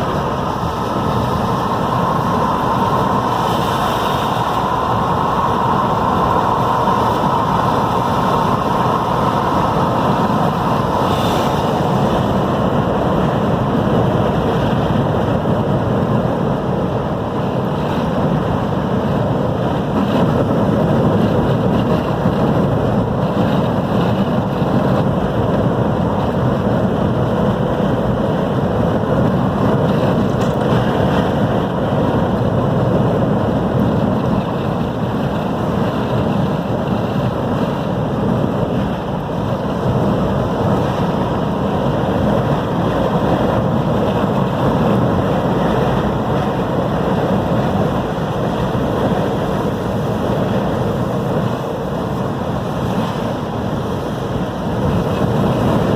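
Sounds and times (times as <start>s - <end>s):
ocean surf: 0.0s - 55.9s
wind buffeting microphone: 0.0s - 55.9s.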